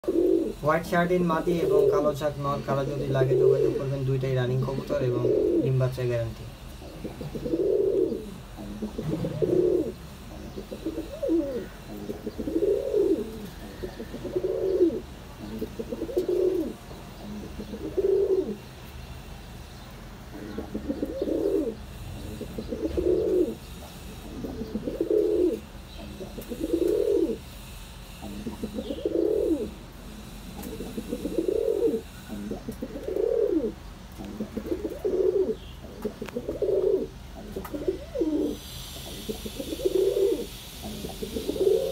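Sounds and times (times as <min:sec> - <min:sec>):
pigeon cooing: 0:00.0 - 0:06.0, 0:06.8 - 0:18.6, 0:20.3 - 0:27.4, 0:28.2 - 0:29.8, 0:30.5 - 0:41.9.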